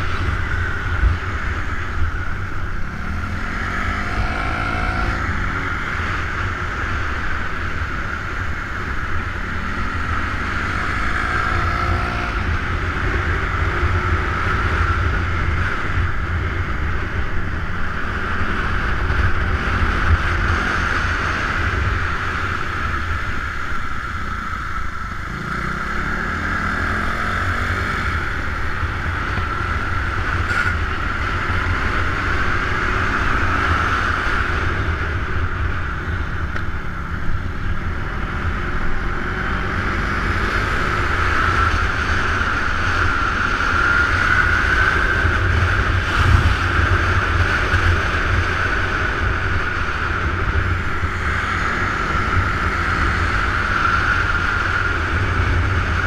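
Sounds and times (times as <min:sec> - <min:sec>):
motorcycle engines running: 0:00.0 - 0:56.0
wind rushing over camera: 0:00.0 - 0:56.0.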